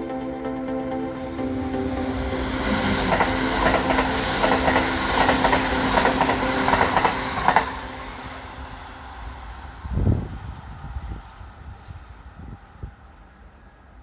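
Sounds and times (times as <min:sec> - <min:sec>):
electric train passing: 0:00.0 - 0:13.8.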